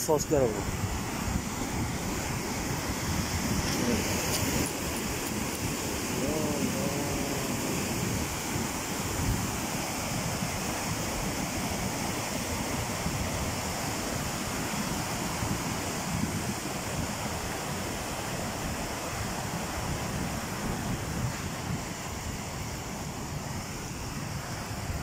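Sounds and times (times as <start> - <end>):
muddy floodwater rushing: 0.0 - 25.0.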